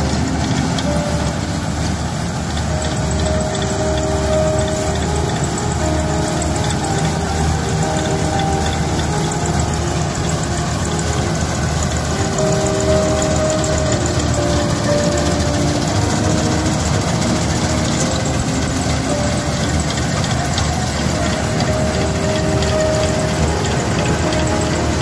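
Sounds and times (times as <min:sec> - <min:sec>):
combine harvester engine drone: 0:00.0 - 0:25.0
machine whining: 0:00.0 - 0:25.0.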